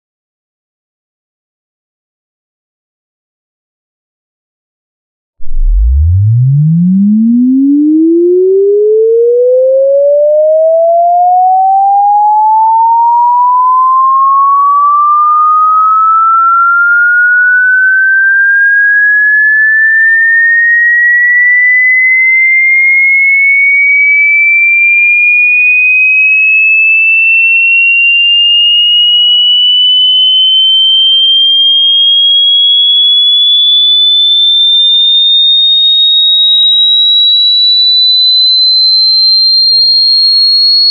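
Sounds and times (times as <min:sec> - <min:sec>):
electronic sine tone sweeping upward: 0:05.4 - 0:40.9.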